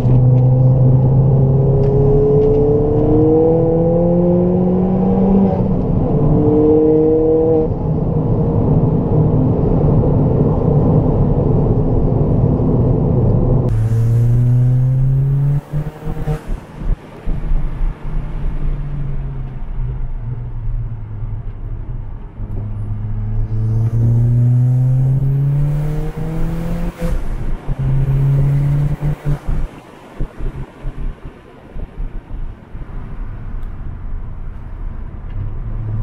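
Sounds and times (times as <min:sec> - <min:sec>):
car engine accelerating: 0:00.0 - 0:36.0
road noise: 0:00.0 - 0:36.0.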